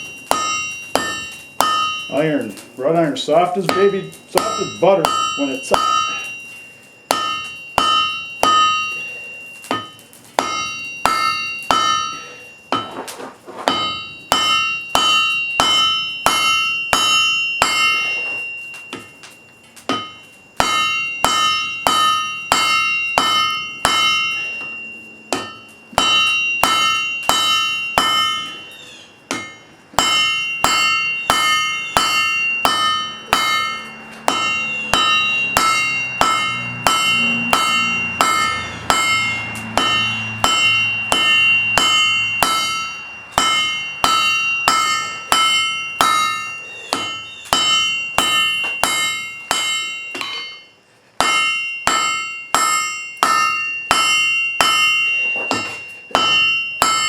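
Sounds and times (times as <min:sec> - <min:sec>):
anvil ringing: 0:00.0 - 0:57.0
hammer striking iron on anvil: 0:00.0 - 0:57.0.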